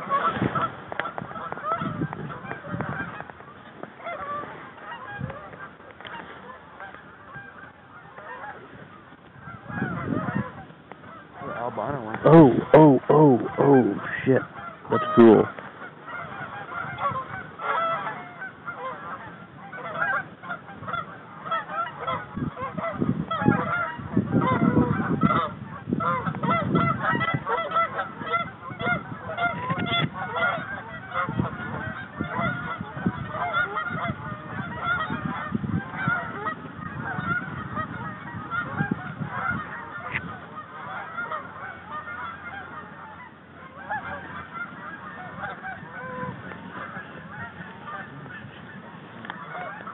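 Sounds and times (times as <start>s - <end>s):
flock of geese honking: 0.0s - 49.9s.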